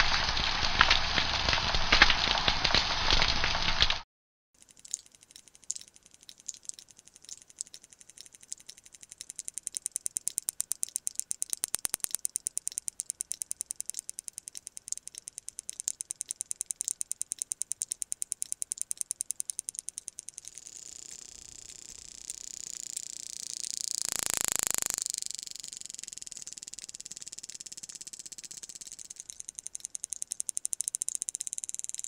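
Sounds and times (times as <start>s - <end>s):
whale echolocation clicks: 4.6s - 32.0s.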